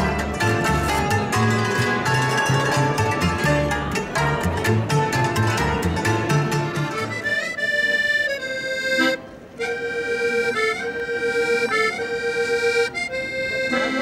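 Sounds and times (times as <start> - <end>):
plucked bass notes: 0.0 - 14.0
reedy melody instrument: 0.0 - 14.0.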